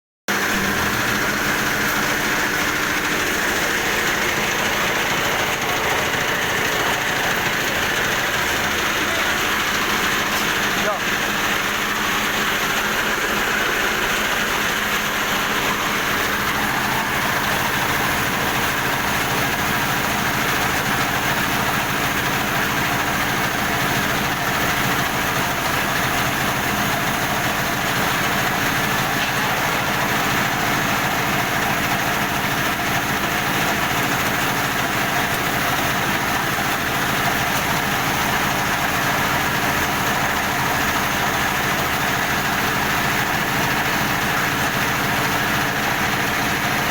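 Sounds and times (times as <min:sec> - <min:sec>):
mill machine droning: 0:00.3 - 0:46.9.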